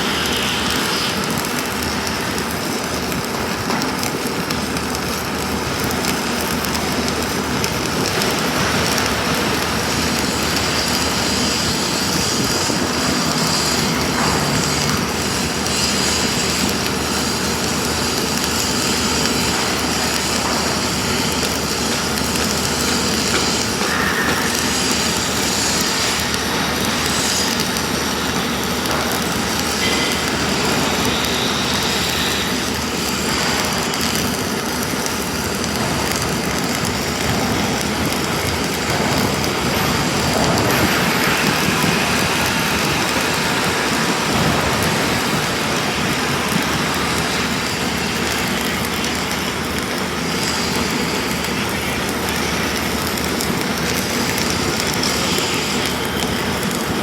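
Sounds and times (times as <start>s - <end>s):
arc welding crackle: 0.0s - 57.0s.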